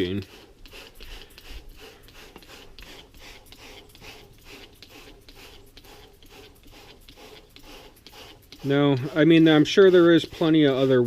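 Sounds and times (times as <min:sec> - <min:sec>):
spray bottle squirting water: 0:00.0 - 0:11.0.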